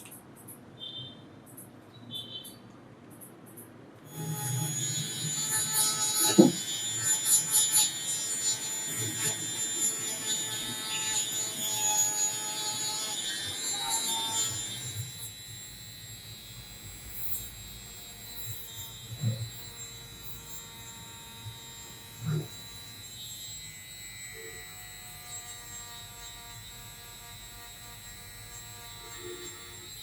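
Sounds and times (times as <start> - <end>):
electric motor humming: 4.1 - 30.0.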